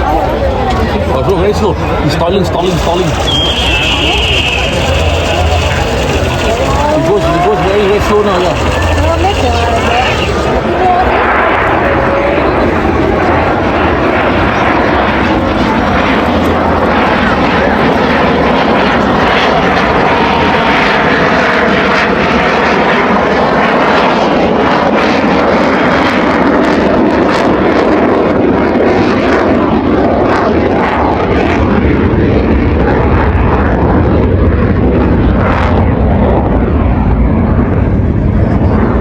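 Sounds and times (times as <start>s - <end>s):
fighter jet engine roaring: 0.0s - 39.0s.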